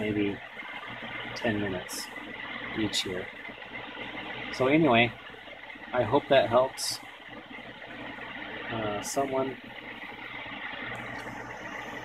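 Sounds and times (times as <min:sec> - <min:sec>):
boiler burner and fan humming: 0:00.0 - 0:12.0.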